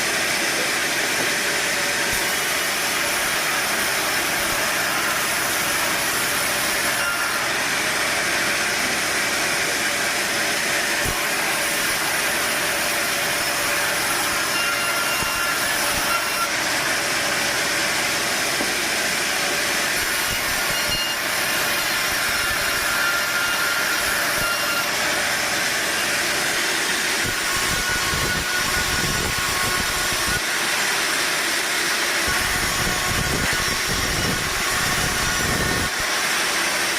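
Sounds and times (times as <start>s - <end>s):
sawmill machinery hissing: 0.0s - 36.9s.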